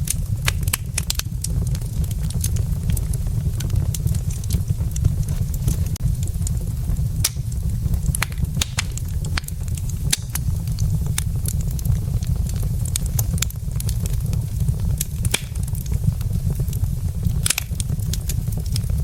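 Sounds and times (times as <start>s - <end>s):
burning logs crackling: 0.0s - 19.0s
low fire rumble: 0.0s - 19.0s.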